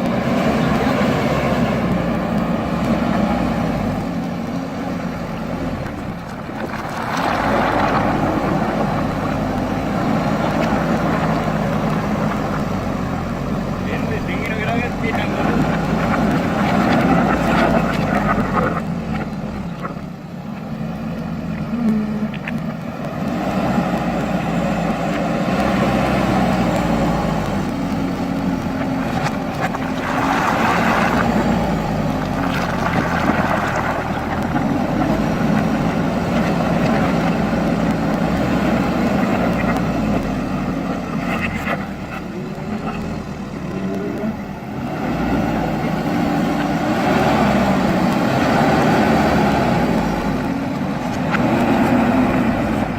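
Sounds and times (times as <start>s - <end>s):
diesel engine under load: 0.0s - 52.9s.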